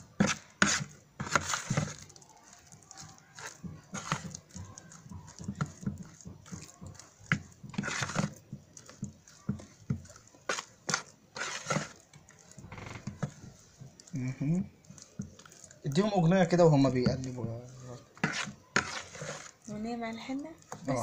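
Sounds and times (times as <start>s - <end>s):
wet paste squelching: 0.0s - 21.0s.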